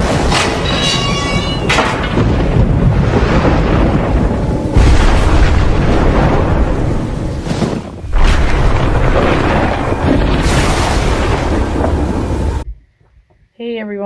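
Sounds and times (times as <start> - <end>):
rumbling soundtrack with deep booms: 0.0 - 12.9.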